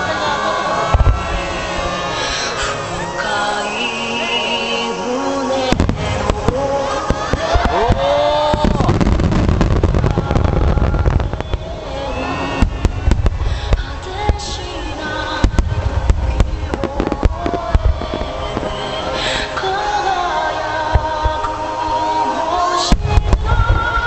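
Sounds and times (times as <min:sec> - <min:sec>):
fireworks bursting: 0:00.0 - 0:24.0
music playing: 0:00.0 - 0:24.0.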